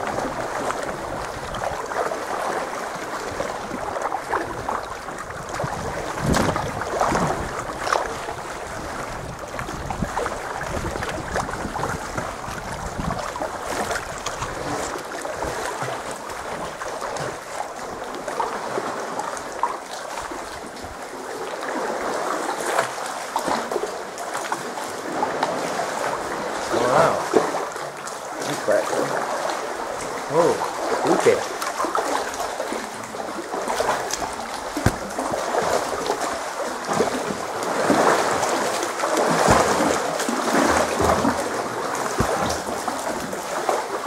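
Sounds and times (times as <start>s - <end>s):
water lapping around kayak: 0.0s - 44.0s
water splashes: 0.0s - 44.0s.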